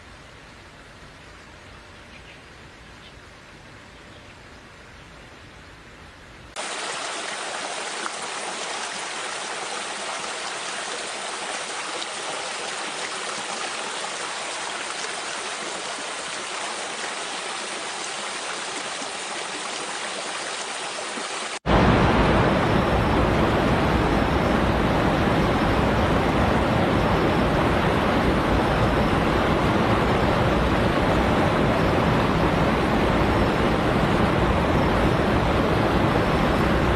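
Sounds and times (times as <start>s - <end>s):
water rushing: 6.6s - 36.9s.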